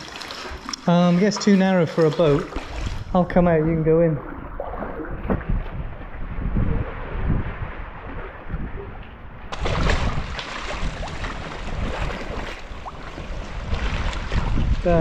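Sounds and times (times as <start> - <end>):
water sloshing around kayak: 0.0 - 15.0
wind buffeting microphone: 2.3 - 15.0.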